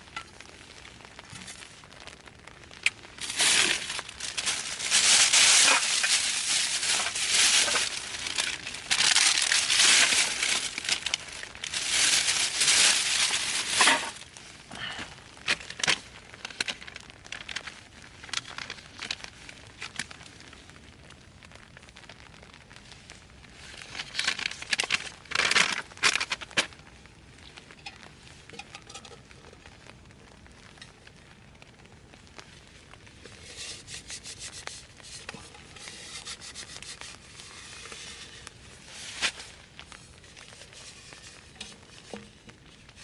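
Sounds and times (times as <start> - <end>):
packaging being crumpled: 0.0 - 20.8, 23.5 - 26.9, 32.2 - 43.0
small clicks and crackles: 0.0 - 43.0.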